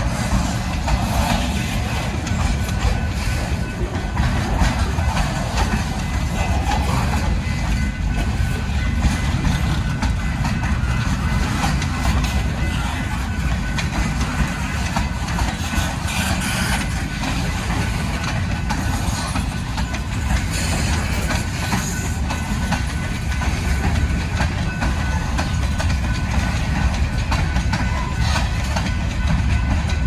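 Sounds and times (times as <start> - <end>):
clicks of train wheels: 0.0 - 30.0
train rumbling past: 0.0 - 30.0.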